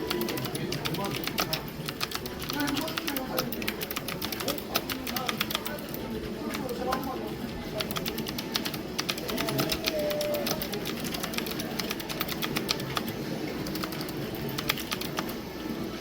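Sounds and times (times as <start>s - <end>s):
low background murmur: 0.0s - 16.0s.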